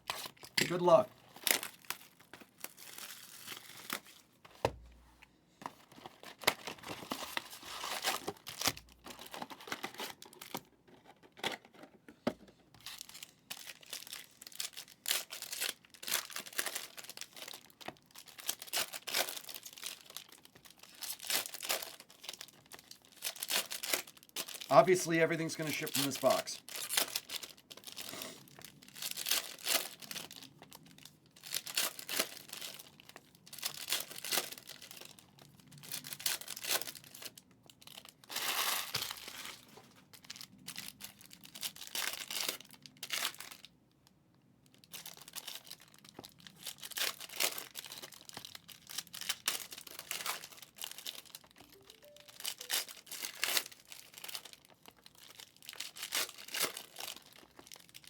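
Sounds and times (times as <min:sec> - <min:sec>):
wrapping torn and crinkled: 0:00.0 - 0:04.4, 0:05.8 - 0:11.3, 0:12.8 - 0:43.8, 0:44.7 - 0:58.0.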